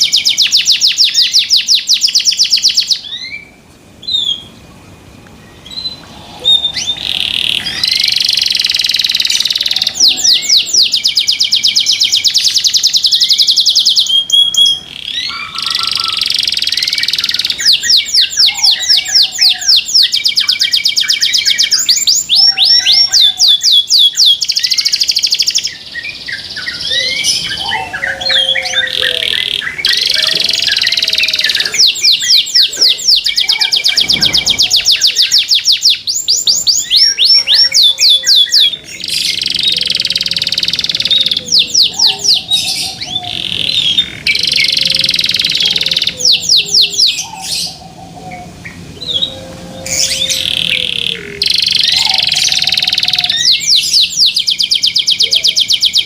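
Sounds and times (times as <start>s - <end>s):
canary singing in rolling trills: 0.0s - 56.0s.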